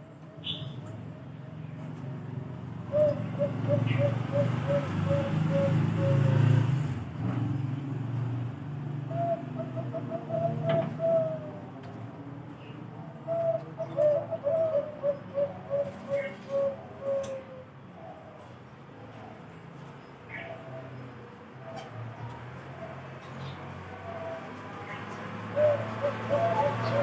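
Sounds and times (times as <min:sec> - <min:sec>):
dove cooing: 0:00.5 - 0:06.7, 0:09.1 - 0:19.6, 0:20.3 - 0:27.0.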